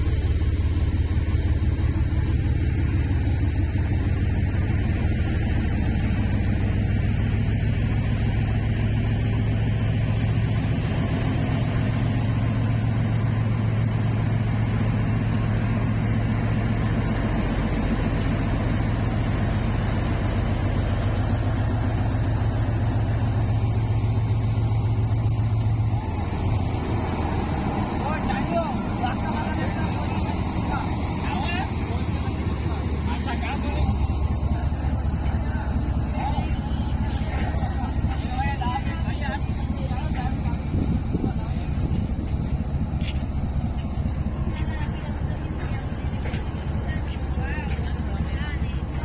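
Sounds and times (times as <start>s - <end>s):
train diesel engine droning: 0.0s - 49.0s.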